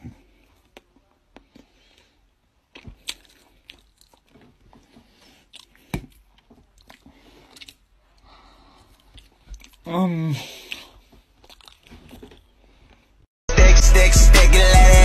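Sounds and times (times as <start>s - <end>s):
close-up chewing and crunching: 0.0s - 13.3s.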